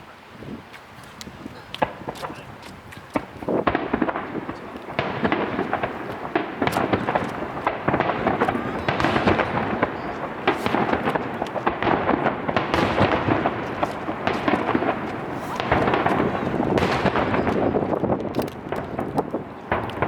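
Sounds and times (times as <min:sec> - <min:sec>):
fireworks crackles: 0:00.4 - 0:20.0
fireworks launching and bursting: 0:01.1 - 0:20.0
rumbling echo: 0:03.6 - 0:20.0.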